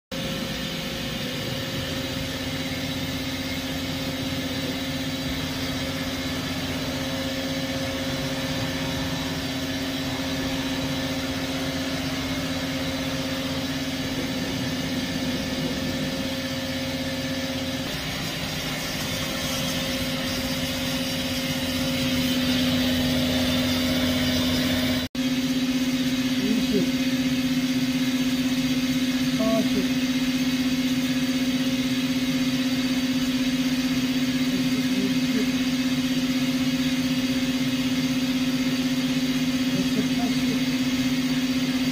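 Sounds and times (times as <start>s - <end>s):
lathe machine hum: 0.1s - 41.9s.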